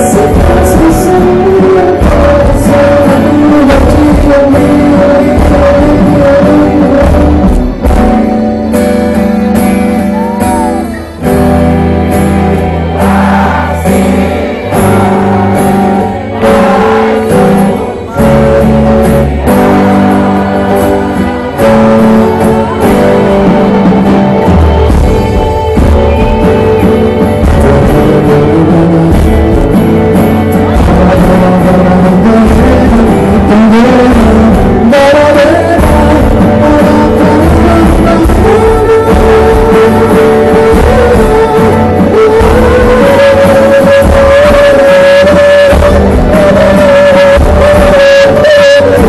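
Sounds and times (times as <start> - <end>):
amplified guitar: 0.0 - 49.0
heavy bass line: 0.0 - 49.0
person singing: 0.0 - 49.0.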